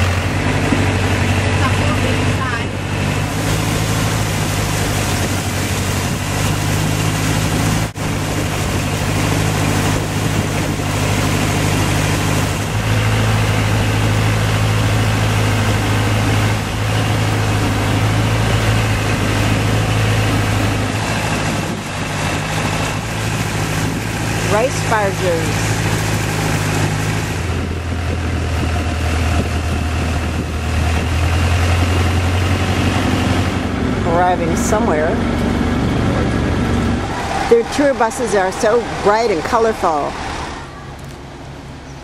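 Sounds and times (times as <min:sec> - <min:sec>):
boat engine droning: 0:00.0 - 0:42.0
rushing water: 0:00.0 - 0:42.0
wind: 0:00.0 - 0:42.0.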